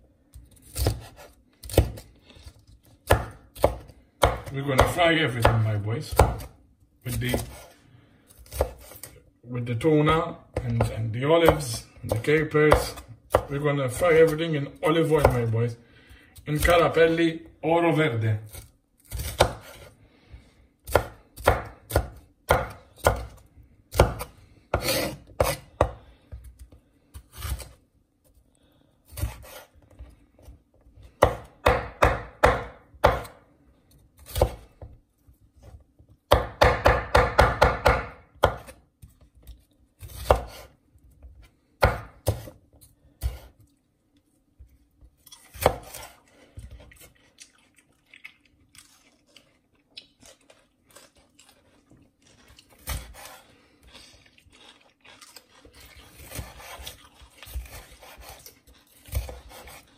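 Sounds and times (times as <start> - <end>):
knife chopping vegetables: 0.3 - 9.2, 9.8 - 15.6, 17.9 - 27.8, 29.0 - 33.5, 34.2 - 35.0, 35.6 - 43.7, 44.6 - 47.4, 50.0 - 59.9.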